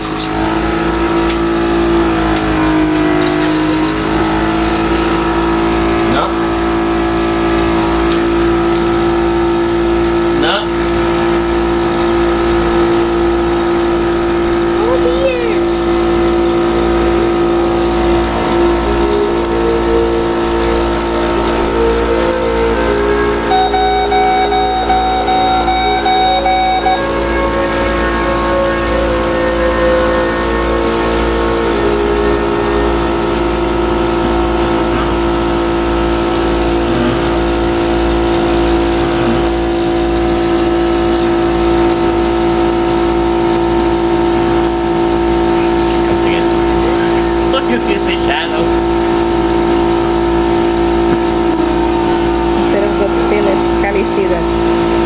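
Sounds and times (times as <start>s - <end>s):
higher tone: 0.0s - 55.0s
machine motor hum: 0.0s - 55.0s.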